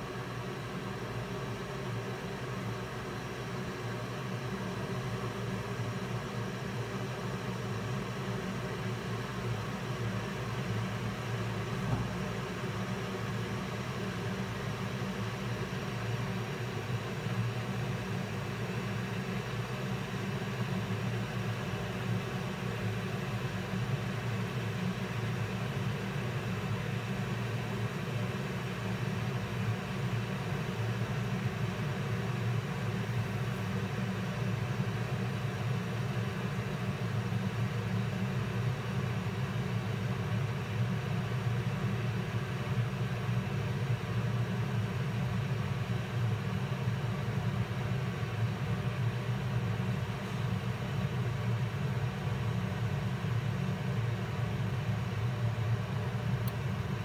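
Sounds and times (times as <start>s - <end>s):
coffee maker pump humming: 0.0s - 57.0s.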